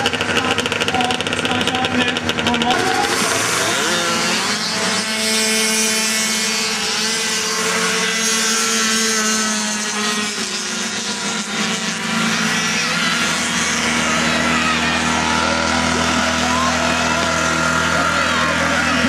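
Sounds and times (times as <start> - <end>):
snowmobile engines passing: 0.0 - 19.0.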